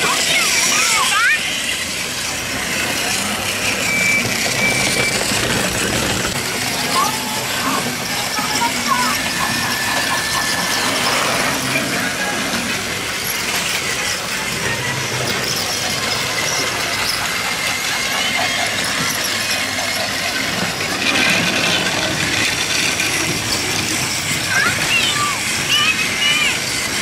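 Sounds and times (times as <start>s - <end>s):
toy train motor whirring: 0.0s - 27.0s
wheels rattling on plastic track: 0.0s - 27.0s.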